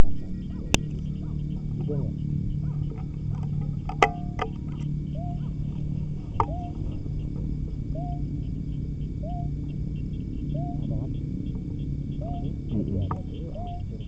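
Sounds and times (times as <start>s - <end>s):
high insect chirring: 0.0s - 14.0s
low hum: 0.0s - 14.0s.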